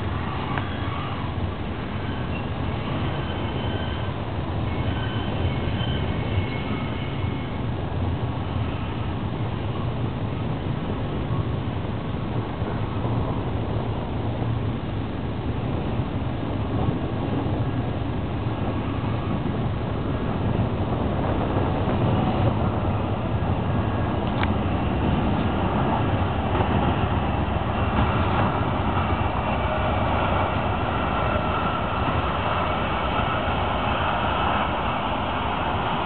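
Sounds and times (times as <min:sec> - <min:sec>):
freight train engine and rail rumble: 0:00.0 - 0:36.0.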